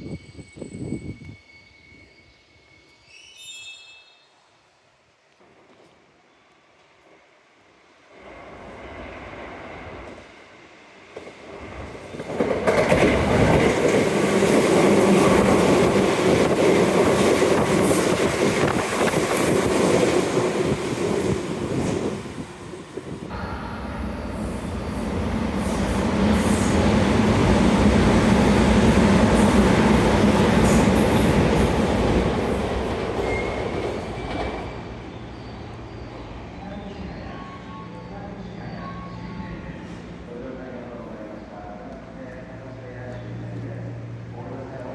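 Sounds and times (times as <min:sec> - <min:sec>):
electric train rumbling: 0:08.0 - 0:44.9.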